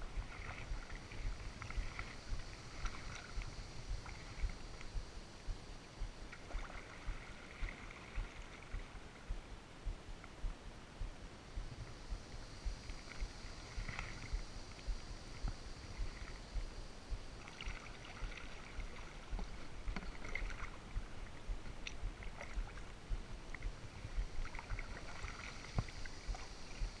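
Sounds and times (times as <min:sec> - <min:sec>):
low rumble of wind on microphone: 0:00.0 - 0:27.0
paddle strokes dipping and dripping: 0:00.0 - 0:27.0.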